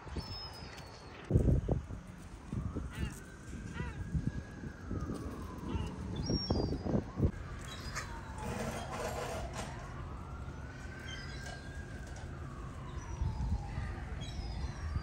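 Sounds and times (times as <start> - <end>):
siren wailing: 1.3 - 15.0.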